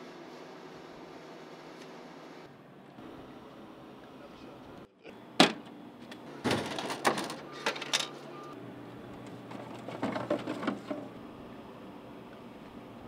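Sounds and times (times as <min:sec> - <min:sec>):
vending machine motor hum: 0:00.0 - 0:13.0.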